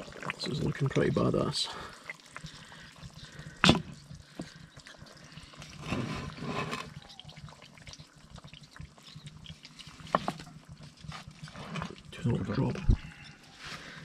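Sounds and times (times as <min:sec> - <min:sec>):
liquid trickling and splashing: 0:00.0 - 0:14.0
stew simmering: 0:00.0 - 0:14.0.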